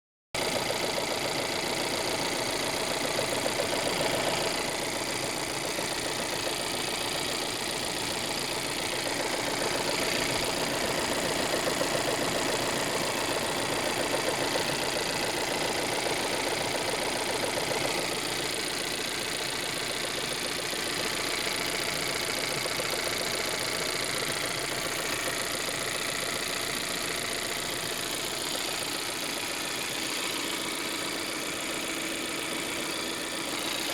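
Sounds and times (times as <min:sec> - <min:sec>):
car engine idling with knocking: 0:00.4 - 0:33.9.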